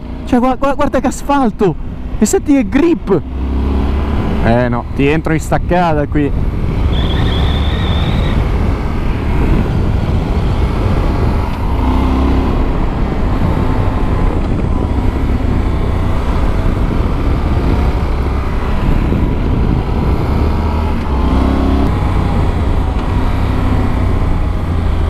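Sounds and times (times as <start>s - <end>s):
motorcycle engine: 0.0s - 25.0s
wind rush on microphone: 1.5s - 25.0s.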